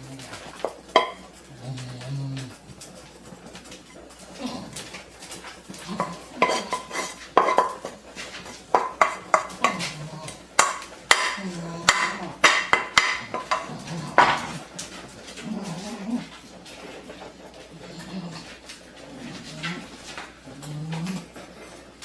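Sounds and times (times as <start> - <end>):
dishes and cutlery clattering: 0.0 - 22.0.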